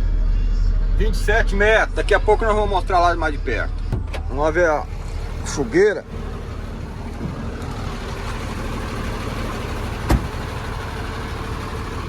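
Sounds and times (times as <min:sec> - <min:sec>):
diesel truck engine running: 0:00.7 - 0:12.0.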